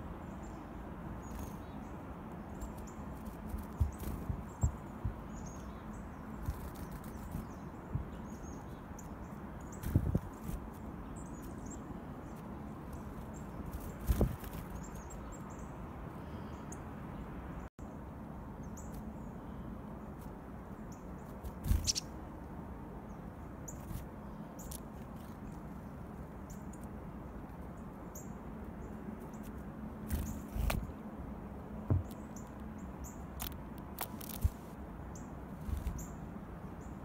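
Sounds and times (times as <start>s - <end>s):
steady low outdoor hiss: 0.0s - 37.0s
chickadee chips and calls: 0.1s - 17.3s, 18.6s - 22.2s, 23.1s - 31.1s, 31.7s - 37.0s.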